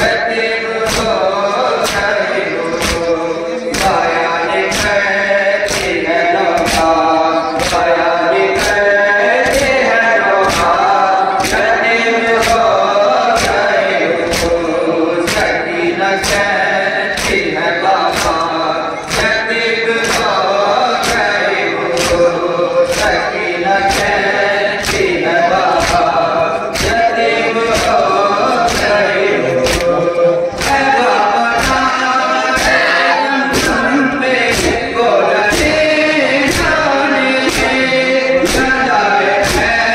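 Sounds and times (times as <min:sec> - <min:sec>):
men chanting a lament: 0:00.0 - 0:39.9
chest-beating slaps: 0:00.9 - 0:39.9.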